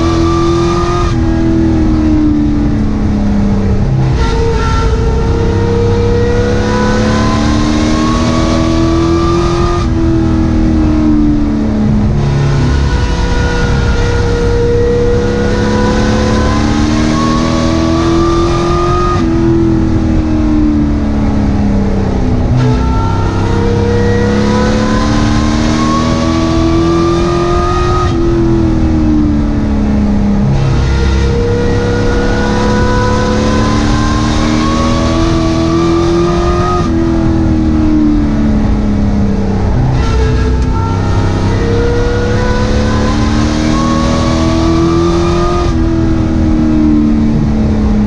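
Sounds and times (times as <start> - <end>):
racing truck engine revving: 0.0 - 48.0.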